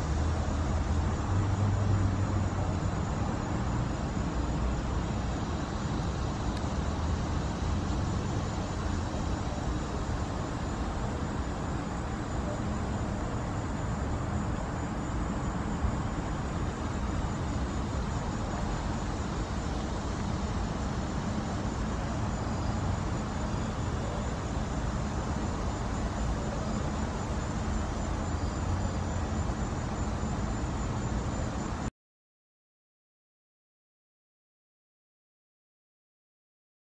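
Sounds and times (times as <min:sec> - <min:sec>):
distant road traffic rumble: 0:00.0 - 0:31.9.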